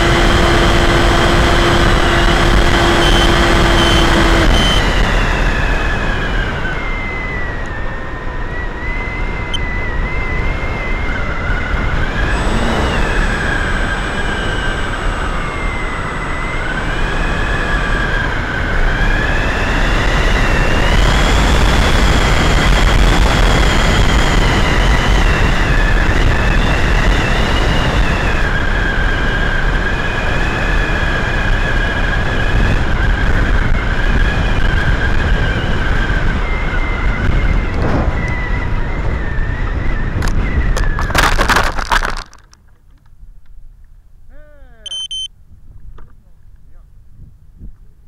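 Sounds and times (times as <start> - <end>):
wind rush: 0.0 - 42.2
electric motor and propeller whining: 0.0 - 42.3.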